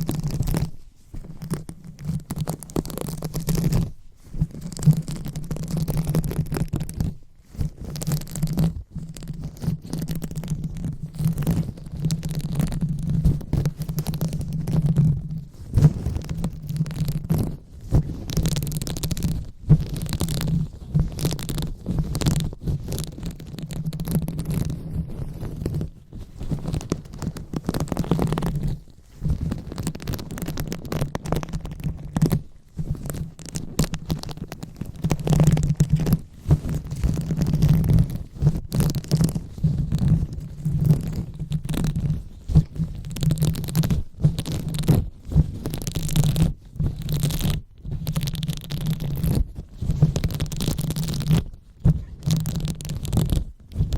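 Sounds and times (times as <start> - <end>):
rubbing and scratching on microphone: 0.0 - 53.9.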